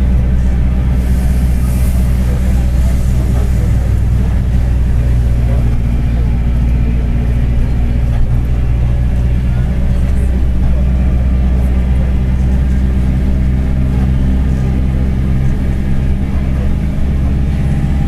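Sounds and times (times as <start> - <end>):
bus diesel engine running: 0.0 - 18.0
low driveshaft rumble: 0.0 - 18.0.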